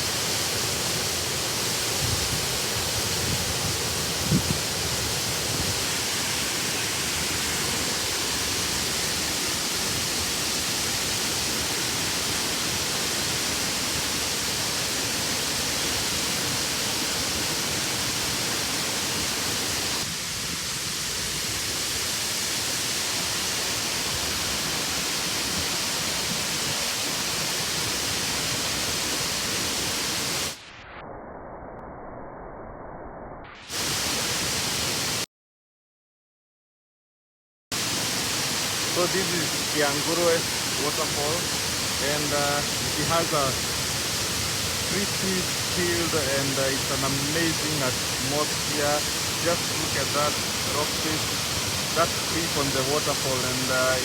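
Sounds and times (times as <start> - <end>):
waterfall rushing: 0.0 - 30.6, 33.7 - 35.2, 37.7 - 54.0.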